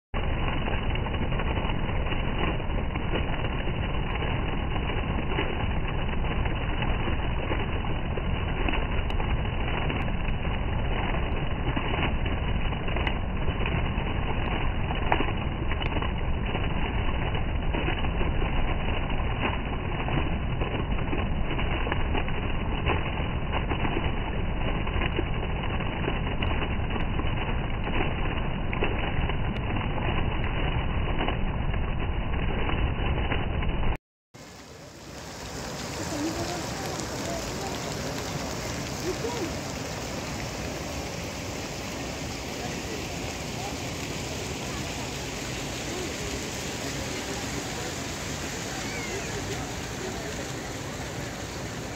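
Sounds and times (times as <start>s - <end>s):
fountain water splashing: 0.2s - 51.9s.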